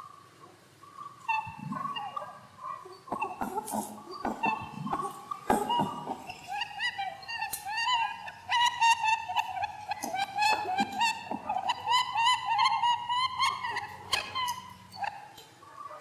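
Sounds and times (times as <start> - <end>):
squeaky animal chirps: 0.8 - 16.0.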